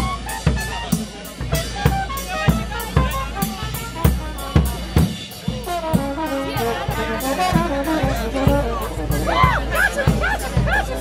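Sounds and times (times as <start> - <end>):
bass drum and snare beat: 0.0 - 11.0
brass horns: 0.0 - 11.0.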